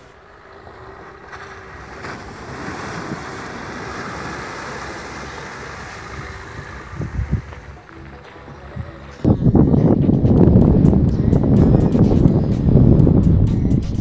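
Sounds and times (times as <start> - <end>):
water splashing and rushing: 0.0 - 14.0
wind rumble on microphone: 0.0 - 14.0.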